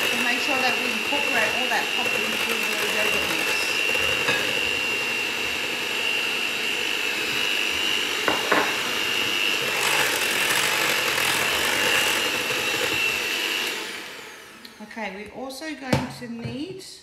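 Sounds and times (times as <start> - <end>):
electric hand mixer whining: 0.0 - 15.2.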